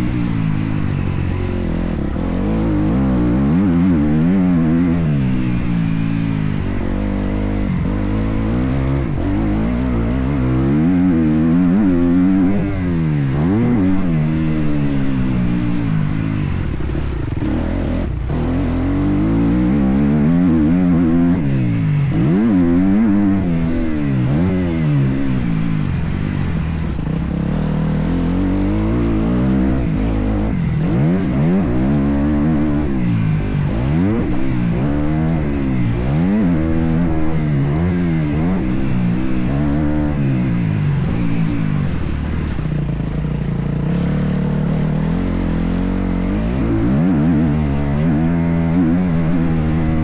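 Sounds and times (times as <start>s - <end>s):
motocross bike engine revving: 0.0s - 50.0s.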